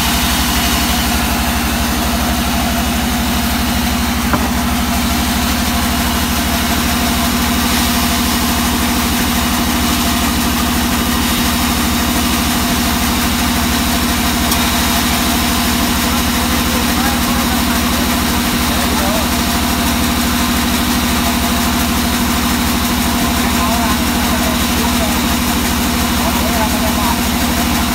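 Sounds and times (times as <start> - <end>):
sawmill engine idling: 0.0 - 27.9.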